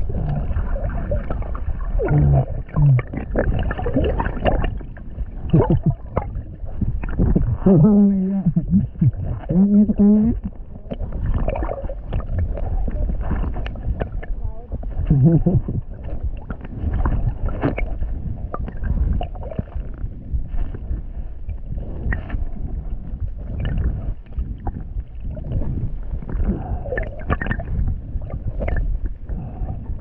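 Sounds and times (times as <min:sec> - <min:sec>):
underwater sloshing rumble: 0:00.0 - 0:30.0.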